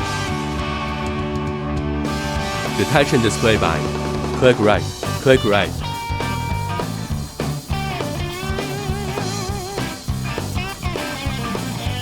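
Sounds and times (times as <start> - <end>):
electric guitar rock music: 0.0 - 12.0.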